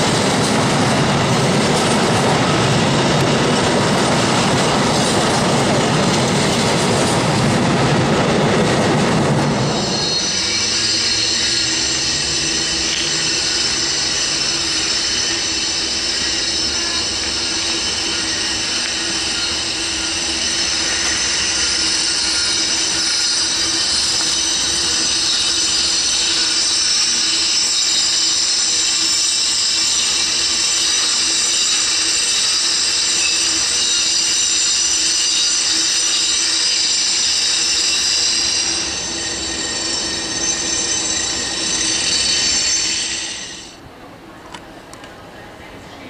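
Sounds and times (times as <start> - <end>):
train wheels squealing: 0.0 - 43.8
train rumble: 0.0 - 46.0.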